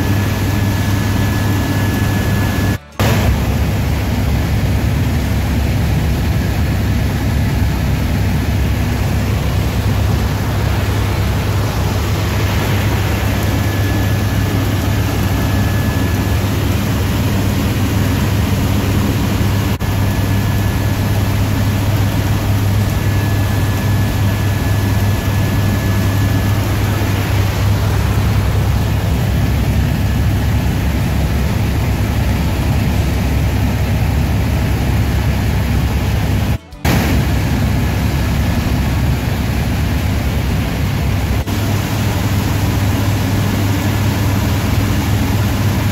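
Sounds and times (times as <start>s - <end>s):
helicopter rotor drone: 0.0s - 45.9s
high turbine whine: 0.0s - 45.9s.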